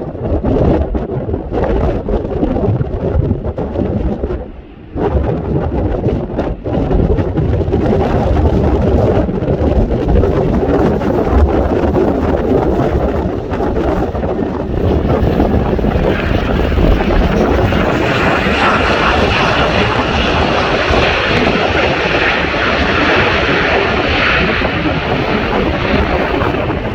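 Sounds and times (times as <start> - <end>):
aircraft engine roar: 0.0 - 26.9
hissy wind roar: 0.0 - 26.9.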